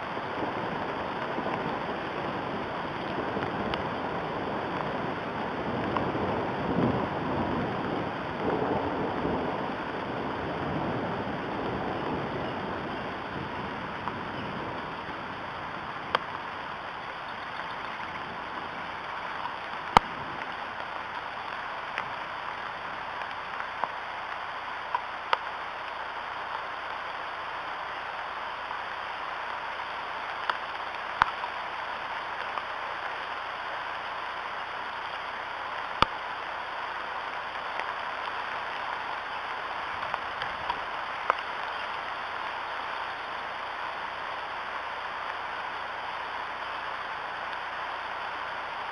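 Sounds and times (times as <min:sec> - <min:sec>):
raindrops tapping microphone: 0:00.0 - 0:48.9
steady rain falling: 0:00.0 - 0:48.9.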